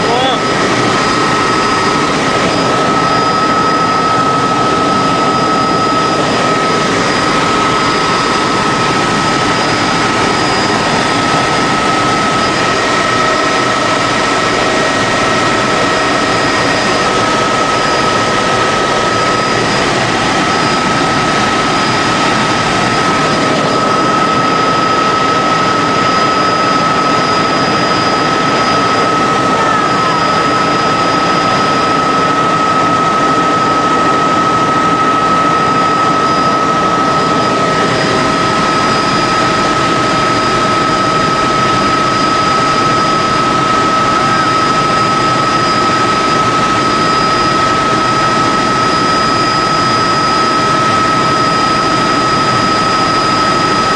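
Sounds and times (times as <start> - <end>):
helicopter engine and rotor noise: 0.0 - 53.9
high whine: 0.0 - 53.9.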